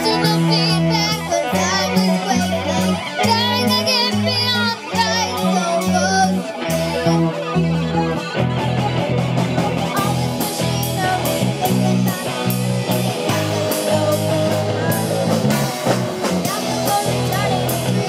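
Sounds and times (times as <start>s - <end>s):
distorted electric guitars: 0.0s - 18.0s
drum kit beat: 0.0s - 18.0s
electric bass: 0.0s - 18.0s.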